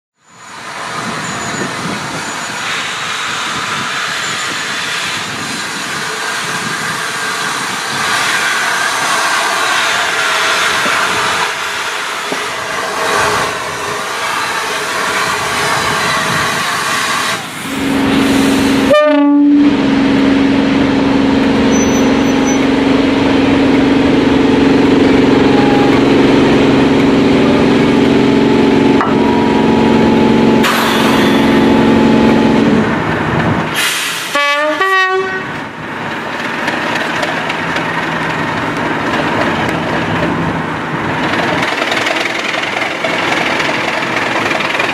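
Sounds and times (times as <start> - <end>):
diesel locomotive engine drone: 0.2 - 44.9
steam locomotive passing: 0.4 - 44.9.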